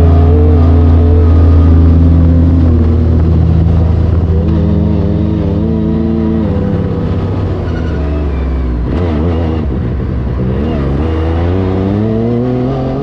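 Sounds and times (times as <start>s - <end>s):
engine running under throttle: 0.0s - 13.0s.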